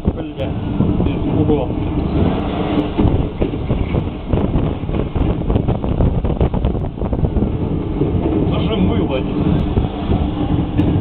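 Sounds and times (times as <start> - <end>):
train running rumble: 0.0 - 11.0
rattles and knocks: 0.6 - 11.0.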